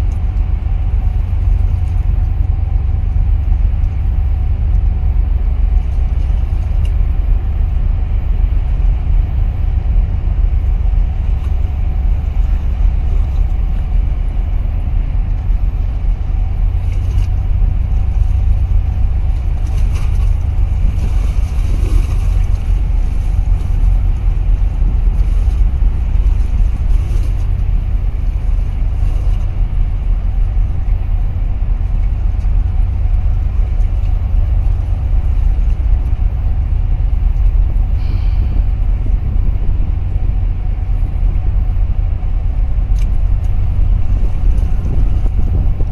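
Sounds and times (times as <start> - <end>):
boat engine rumble: 0.0 - 45.9
faint steady hum: 0.0 - 45.9.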